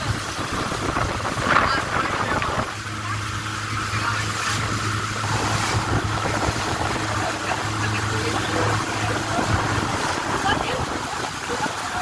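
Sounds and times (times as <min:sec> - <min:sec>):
motorboat engine humming: 0:00.0 - 0:12.0
wake water rushing: 0:00.0 - 0:12.0
wind: 0:00.0 - 0:12.0.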